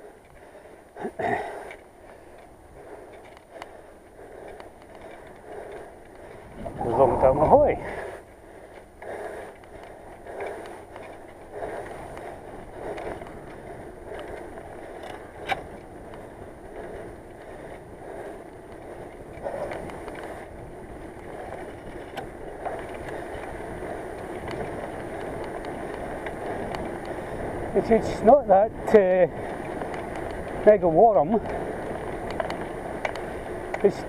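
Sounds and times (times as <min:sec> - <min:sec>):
road noise: 0:00.0 - 0:34.0
rushing wind: 0:00.0 - 0:34.0.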